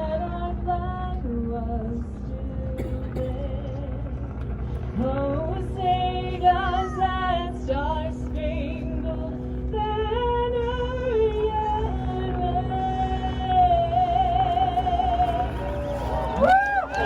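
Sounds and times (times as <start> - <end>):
woman singing: 0.0 - 4.1, 5.0 - 16.0
low rumble: 0.0 - 17.0.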